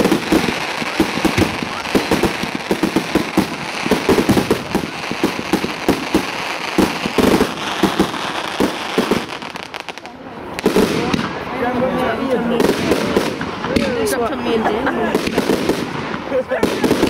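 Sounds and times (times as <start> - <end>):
firework bangs: 0.0 - 11.6, 12.4 - 14.3, 15.1 - 17.0
firework crackle: 0.0 - 11.6, 12.2 - 14.3, 15.1 - 17.0.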